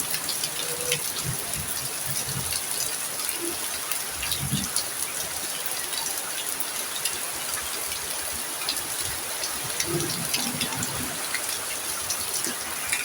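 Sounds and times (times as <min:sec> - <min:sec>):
heavy rain falling: 0:00.0 - 0:13.0
raindrops ticking on a surface: 0:00.0 - 0:13.0.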